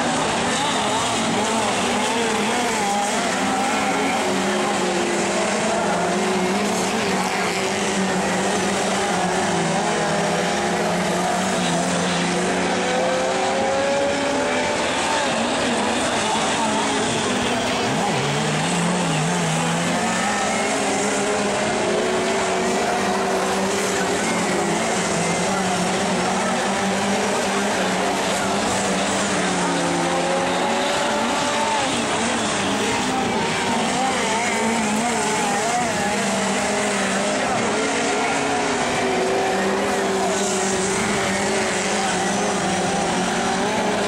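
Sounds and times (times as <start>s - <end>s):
race car engines running hard: 0.0s - 44.0s.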